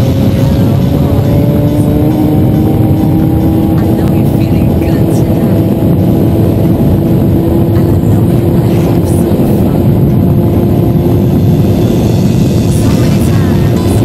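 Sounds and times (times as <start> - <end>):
motorcycle engine running steadily: 0.0 - 14.0
wind rush on microphone: 0.0 - 14.0.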